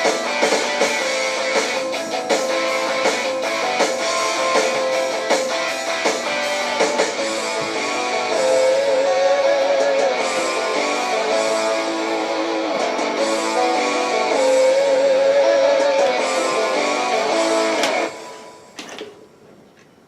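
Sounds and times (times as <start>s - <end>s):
heavy metal electric guitars: 0.0s - 18.3s.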